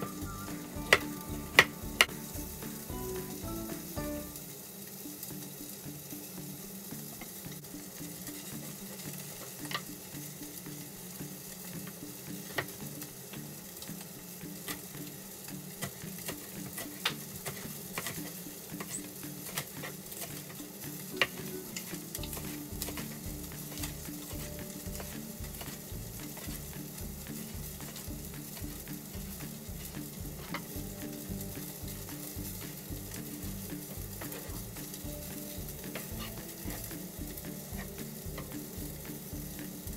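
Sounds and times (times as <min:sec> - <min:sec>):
fish sizzling in a pan: 0:00.0 - 0:39.9.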